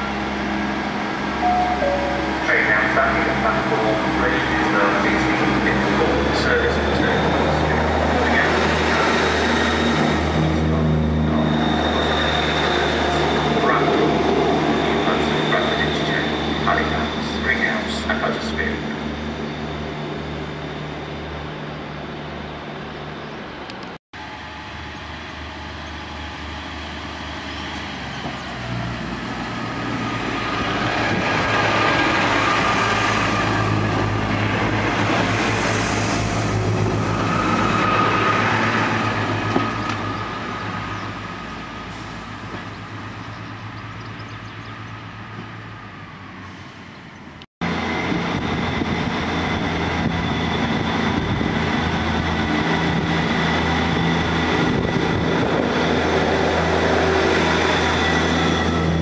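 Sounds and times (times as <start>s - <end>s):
train engine hum with high whine: 0.0s - 59.0s.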